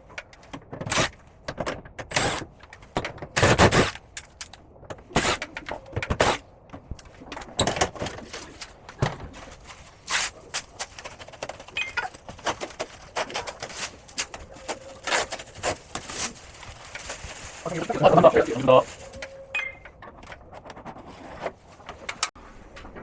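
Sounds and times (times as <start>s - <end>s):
plastic parts and tools clattering: 0.0s - 22.3s.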